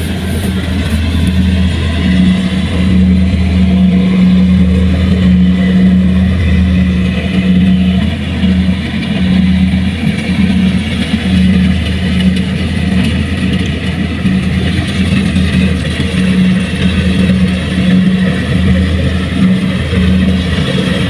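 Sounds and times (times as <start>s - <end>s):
machine engine running steadily: 0.0s - 21.0s.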